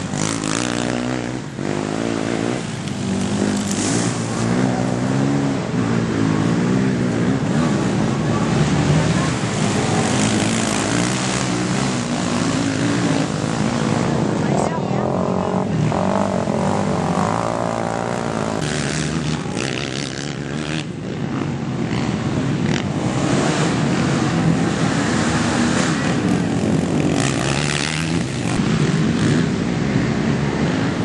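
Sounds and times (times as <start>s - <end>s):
quad engines revving: 0.0s - 31.0s.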